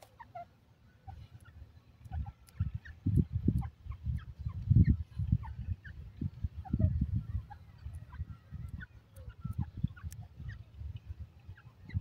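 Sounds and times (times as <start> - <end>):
bird clucking softly: 0.0 - 12.0.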